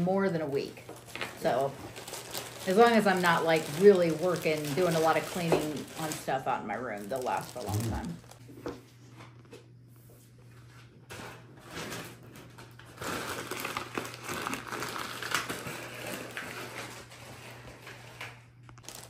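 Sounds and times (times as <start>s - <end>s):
faint steady hum: 0.0s - 19.0s
plastic packaging crinkling: 0.7s - 8.4s, 11.1s - 19.0s.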